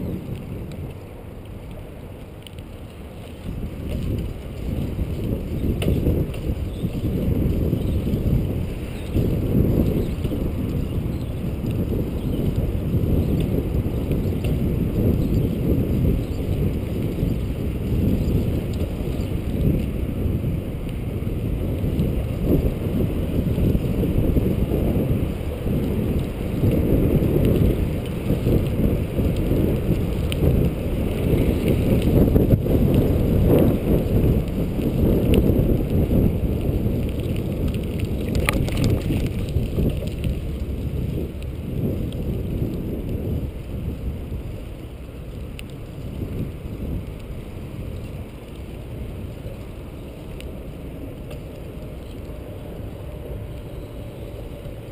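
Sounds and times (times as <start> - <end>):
bicycle tyre rumble on pavement: 0.0 - 54.9
wind buffeting microphone: 0.0 - 54.9.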